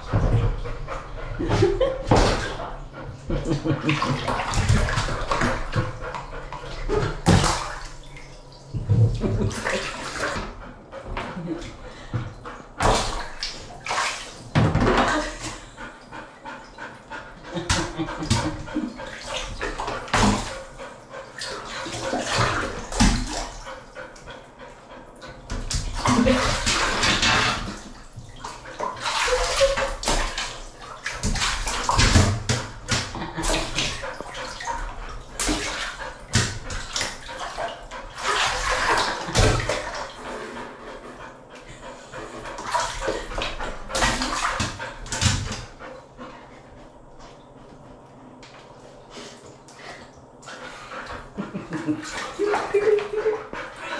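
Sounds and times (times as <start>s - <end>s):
water splashing in bathtub: 0.0s - 53.9s.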